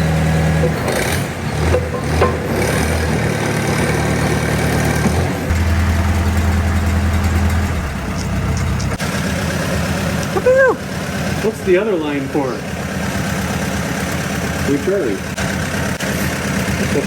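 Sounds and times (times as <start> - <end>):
log splitter engine running: 0.0 - 17.0.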